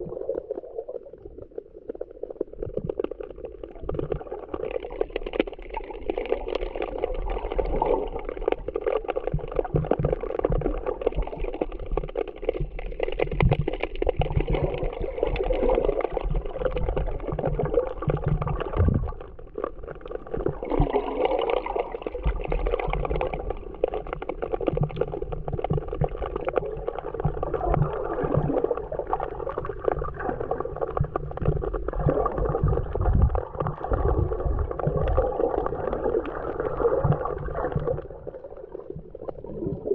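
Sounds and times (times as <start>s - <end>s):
underwater sea water gurgling: 0.0s - 39.9s.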